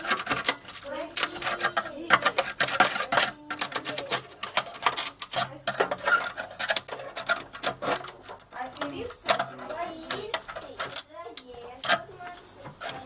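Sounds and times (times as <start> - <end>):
hand tools clicking and clattering: 0.0 - 13.0.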